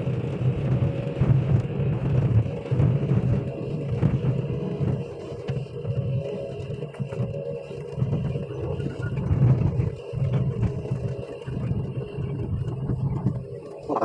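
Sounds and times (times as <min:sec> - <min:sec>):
excavator diesel engine hum: 0:00.0 - 0:14.0.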